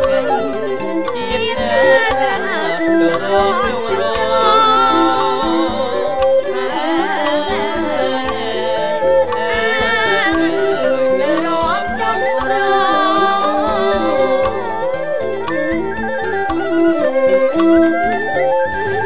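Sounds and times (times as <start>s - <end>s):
steady drum accompaniment: 0.0s - 18.0s
voices singing in unison: 0.0s - 19.0s.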